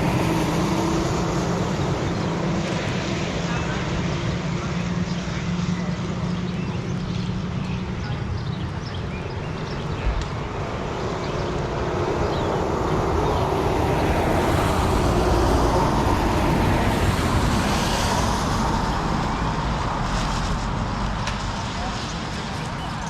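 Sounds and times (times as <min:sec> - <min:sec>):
road vehicle passing: 0:00.0 - 0:23.0.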